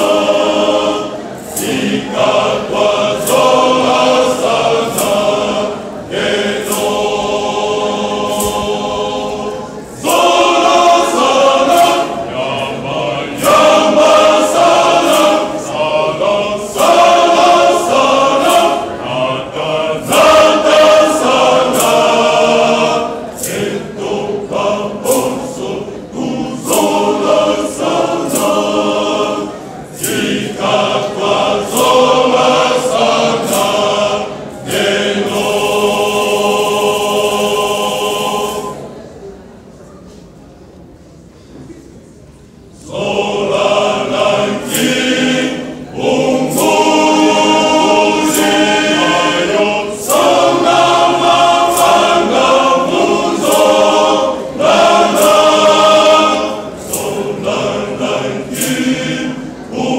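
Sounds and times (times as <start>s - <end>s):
sharp clicks keeping a beat: 0.0s - 39.0s, 42.8s - 59.9s
male choir singing: 0.0s - 39.2s, 42.7s - 59.9s.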